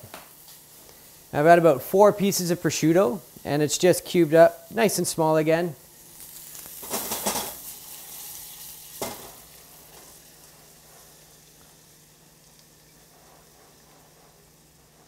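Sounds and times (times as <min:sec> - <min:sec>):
shallots sizzling in butter: 0:00.0 - 0:15.0.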